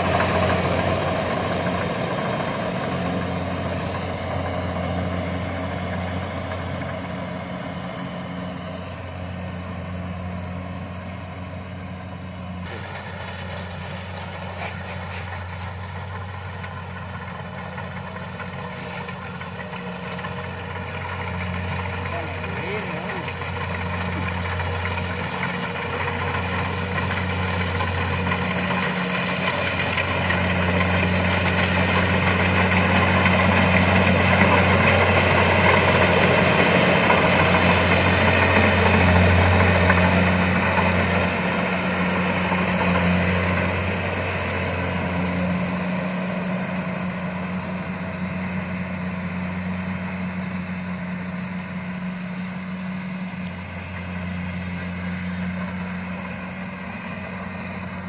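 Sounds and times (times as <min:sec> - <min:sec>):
combine harvester diesel drone: 0:00.0 - 0:58.0.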